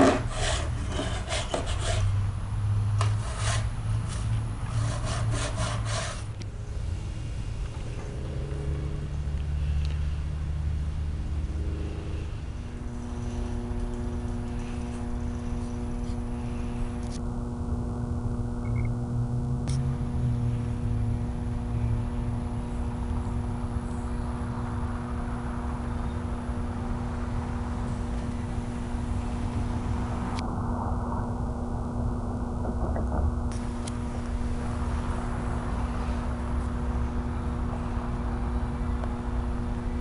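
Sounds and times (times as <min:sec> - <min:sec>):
droning hum: 0:00.0 - 0:40.0
engine low rumble: 0:00.0 - 0:40.0.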